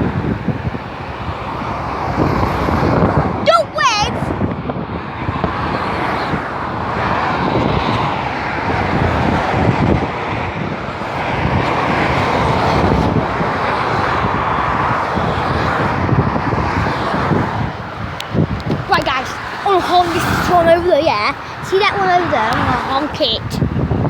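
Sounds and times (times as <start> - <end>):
car road and wind rush: 0.0 - 24.0.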